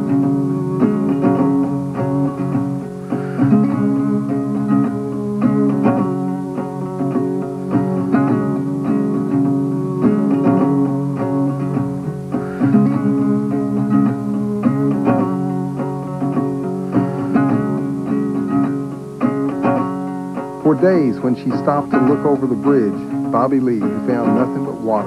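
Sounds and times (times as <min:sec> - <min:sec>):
plucked guitar notes: 0:00.0 - 0:25.0.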